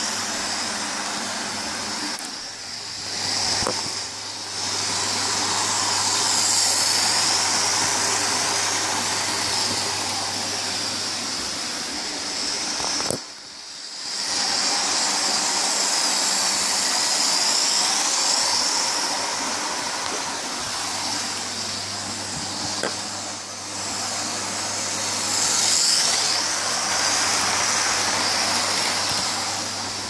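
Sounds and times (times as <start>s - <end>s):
model train motor whirring: 1.9s - 21.6s, 25.2s - 30.0s.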